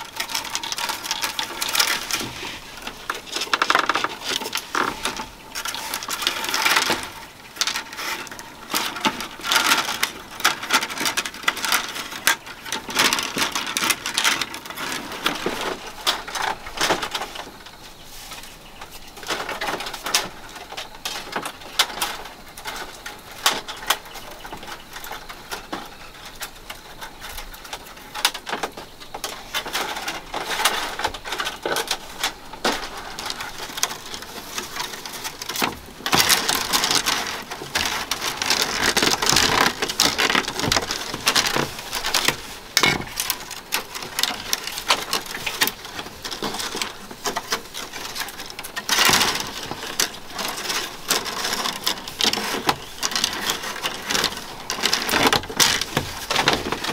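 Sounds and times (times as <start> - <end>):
bamboo strips clicking and scraping: 0.0 - 56.9.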